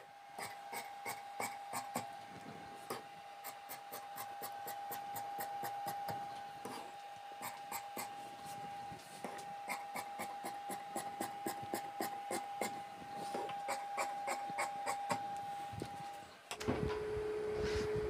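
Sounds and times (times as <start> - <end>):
faint steady whine: 0.0 - 18.0.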